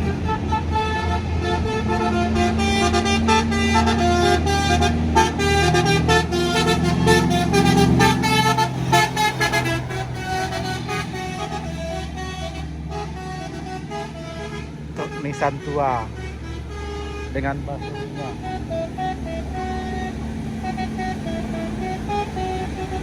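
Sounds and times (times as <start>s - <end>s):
large engine running: 0.0s - 23.0s
multi-tone bus horn: 0.0s - 23.0s.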